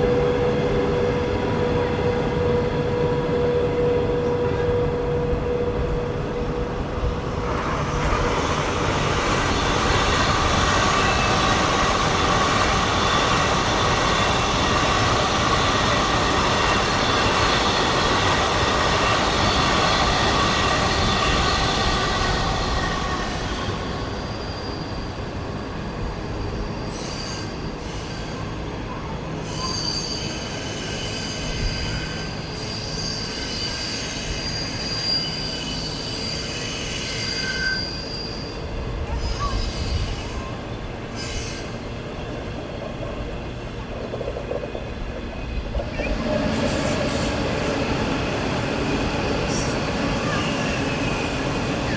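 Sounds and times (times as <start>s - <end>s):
train rumble: 0.0s - 51.9s
train wheel squeal: 0.0s - 51.9s.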